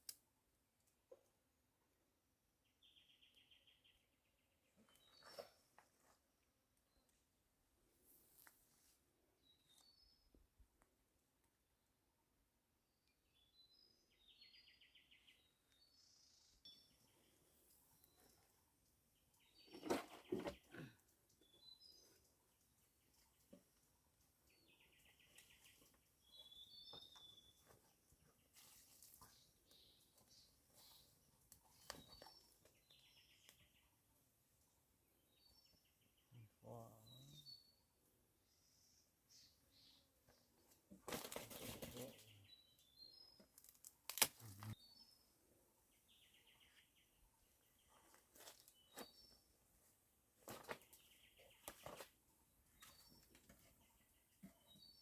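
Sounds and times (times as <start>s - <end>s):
faint birds chirping: 0.0s - 55.0s.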